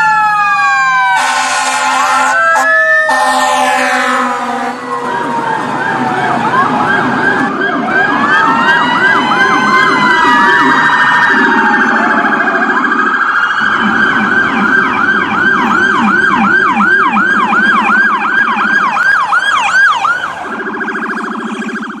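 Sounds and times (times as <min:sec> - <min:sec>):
electronic siren wail: 0:00.0 - 0:22.0
lower sweeping siren tone: 0:00.0 - 0:22.0
rapid siren yelp: 0:00.0 - 0:22.0.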